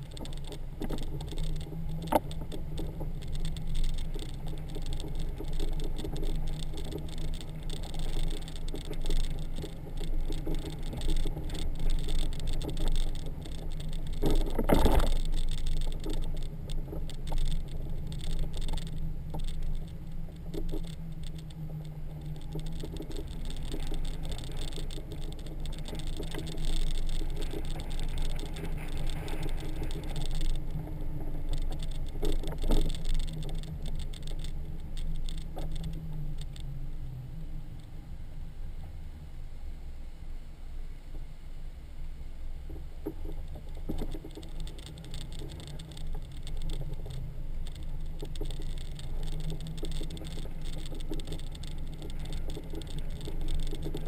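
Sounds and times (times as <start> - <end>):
motorcycle engine and road rumble: 0.0 - 54.0.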